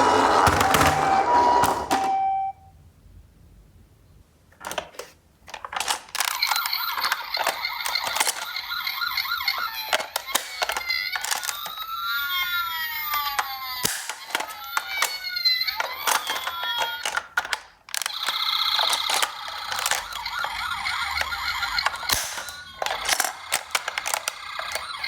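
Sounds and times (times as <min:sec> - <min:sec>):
toy siren: 0:00.4 - 0:02.6, 0:06.3 - 0:17.4, 0:18.0 - 0:25.0.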